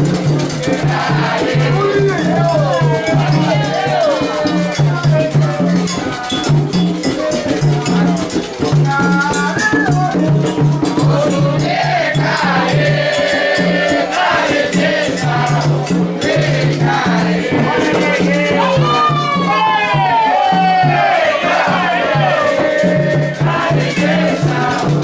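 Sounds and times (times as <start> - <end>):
rattle shaken to a low beat: 0.0 - 25.0
voices singing: 0.0 - 25.0.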